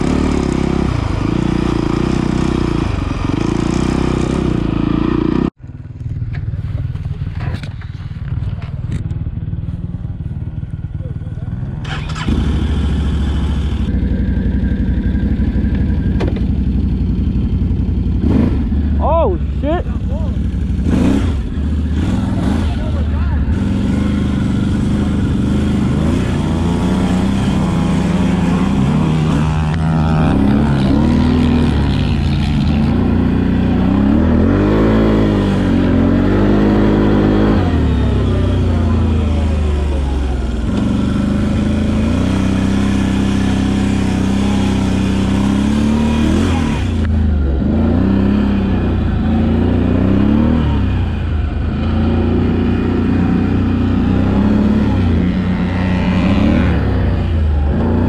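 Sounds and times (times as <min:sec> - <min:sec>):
quad engine revving: 0:00.0 - 0:05.6, 0:11.0 - 0:58.0.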